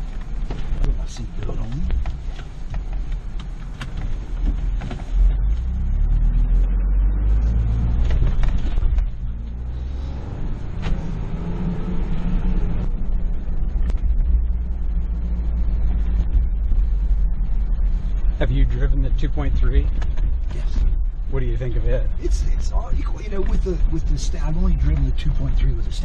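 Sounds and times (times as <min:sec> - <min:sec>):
car engine accelerating: 0:00.0 - 0:26.0
road rumble: 0:00.0 - 0:26.0.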